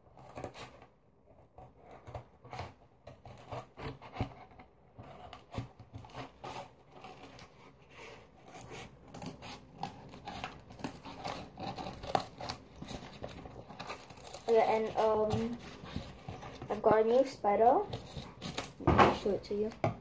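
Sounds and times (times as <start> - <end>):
cardboard rustling: 0.0 - 20.0
scissors cutting cardboard: 0.0 - 20.0.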